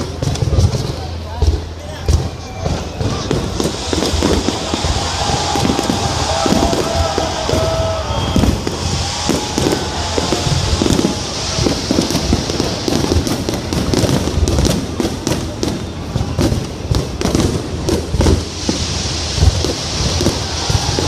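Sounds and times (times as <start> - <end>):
fireworks bangs and booms: 0.0 - 21.0
fireworks crackling hiss: 0.0 - 21.0.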